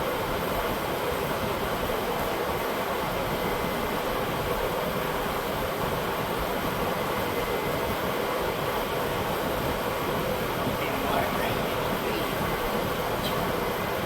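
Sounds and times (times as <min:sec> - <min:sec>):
fan running: 0:00.0 - 0:14.0.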